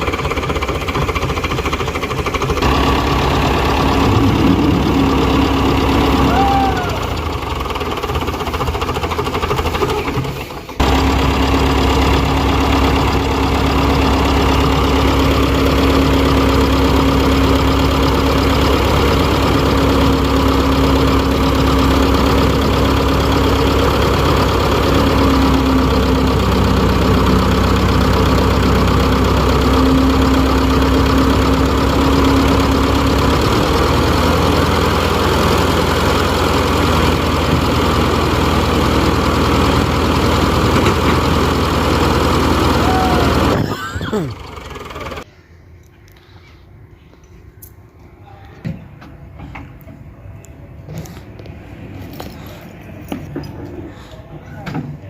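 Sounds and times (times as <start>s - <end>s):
tractor diesel engine running: 0.0s - 45.3s, 49.5s - 54.6s.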